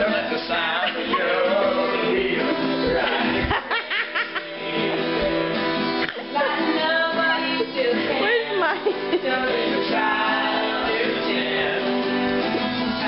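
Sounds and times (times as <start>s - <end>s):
guitar: 0.0s - 13.0s
person singing: 0.0s - 13.0s.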